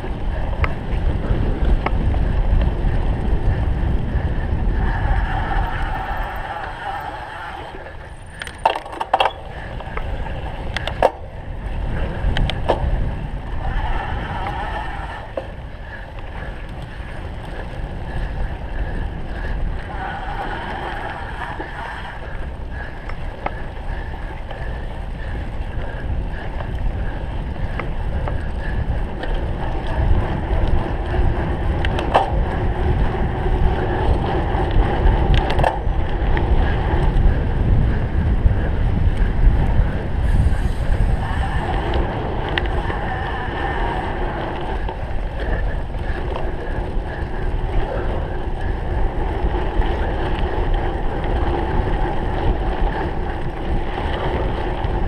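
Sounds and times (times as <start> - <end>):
bike rattling over rough ground: 0.0 - 55.0
wind noise on microphone: 0.0 - 55.0.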